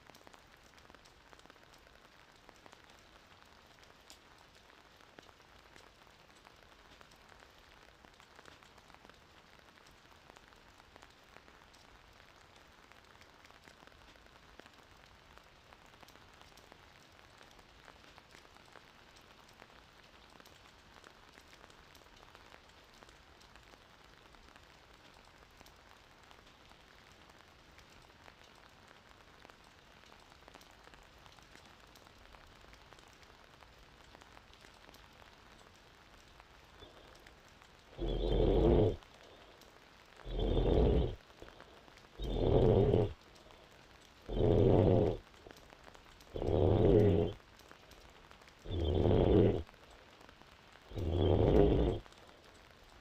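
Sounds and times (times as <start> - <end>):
faint steady hiss: 0.0 - 53.0
light crackling ticks: 0.0 - 53.0.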